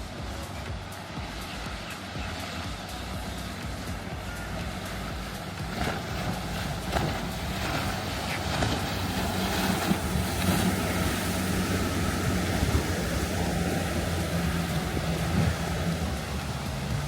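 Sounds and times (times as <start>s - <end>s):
motorboat engine humming: 0.0s - 17.0s
surf: 0.0s - 17.0s
wind noise on microphone: 0.0s - 17.0s.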